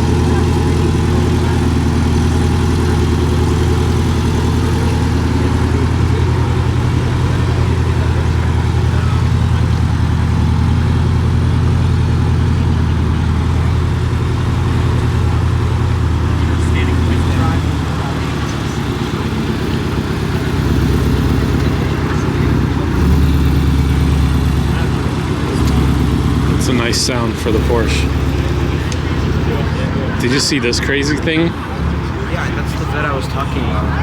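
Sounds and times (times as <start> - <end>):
sports car engine idling: 0.0 - 34.0.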